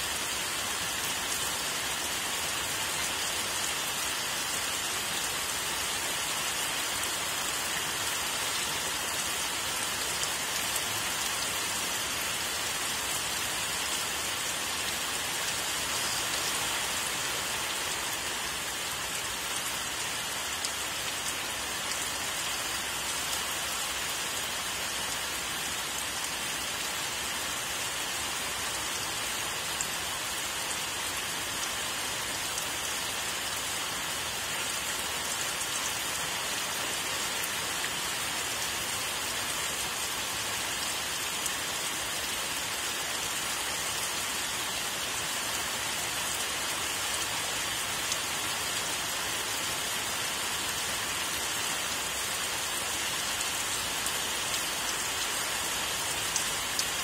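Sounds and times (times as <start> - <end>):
rain on leafy trees: 0.0 - 57.0.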